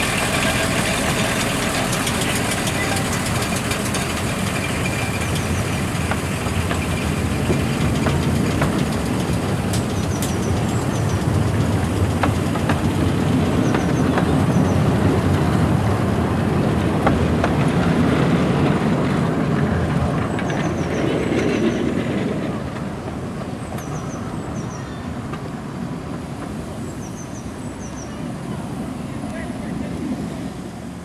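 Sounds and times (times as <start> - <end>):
train rumbling over track: 0.0 - 31.0.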